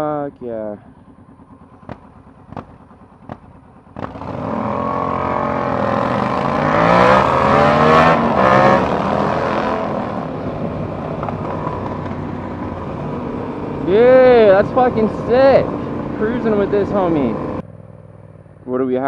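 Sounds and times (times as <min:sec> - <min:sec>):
motorcycle engine accelerating: 0:00.0 - 0:19.0
rushing wind: 0:01.0 - 0:17.6.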